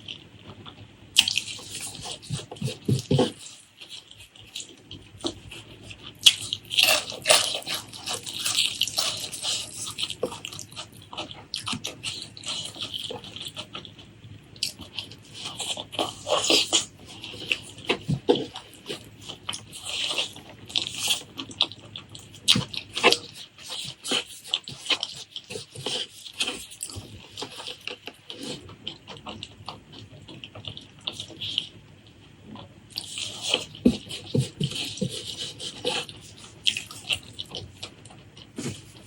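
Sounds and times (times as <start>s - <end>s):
chewing and lip-smacking: 0.0s - 39.0s.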